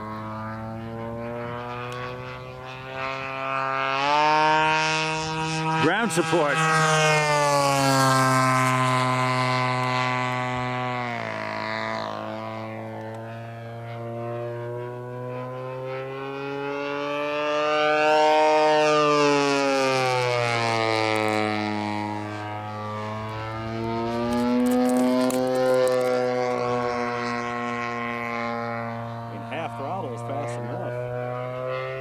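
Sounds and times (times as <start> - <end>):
model airplane engine flying past: 0.0 - 32.0.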